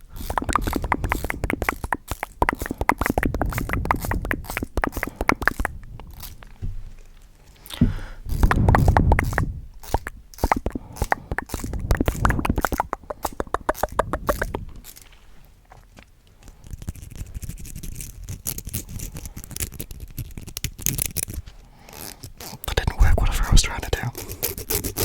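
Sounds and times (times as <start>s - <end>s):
crackly clicks and scratches: 0.2s - 7.5s, 8.3s - 25.0s.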